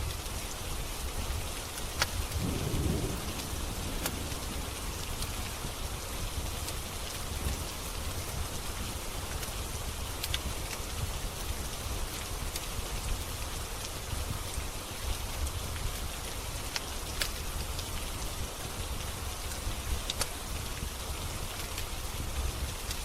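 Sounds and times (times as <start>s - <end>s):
steady rain: 0.0s - 23.0s
wood fire crackling: 0.0s - 23.0s.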